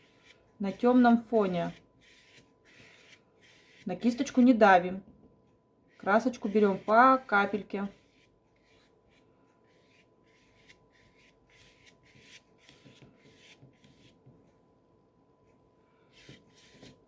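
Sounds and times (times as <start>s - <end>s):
paintbrush swishing on paper: 0.0s - 4.6s, 5.9s - 14.5s, 16.1s - 17.0s.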